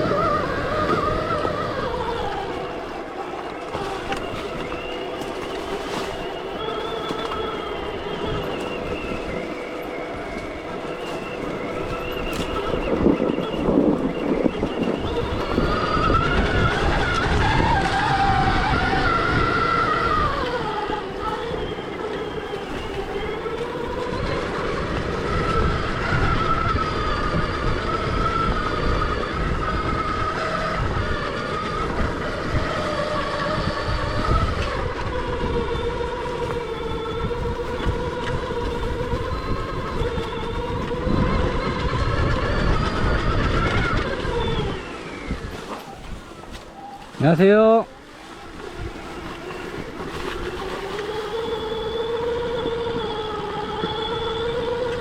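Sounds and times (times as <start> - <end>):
electric motorbike motor whining: 0.0 - 55.0
wind and terrain rumble: 0.0 - 55.0.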